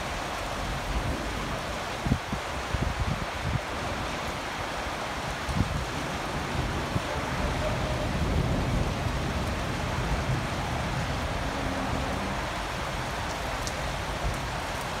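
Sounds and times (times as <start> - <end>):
steady rain hiss: 0.0 - 15.0
wind rumbling: 0.0 - 15.0.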